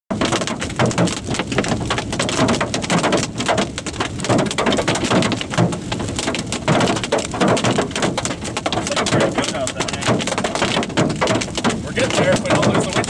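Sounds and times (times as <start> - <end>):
hail clattering on car: 0.1 - 13.0.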